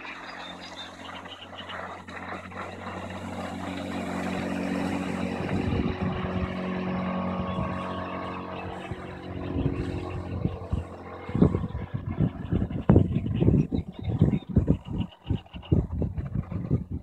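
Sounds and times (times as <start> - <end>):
outboard motor running: 0.0 - 17.0
low thumps and buffeting: 2.2 - 17.0.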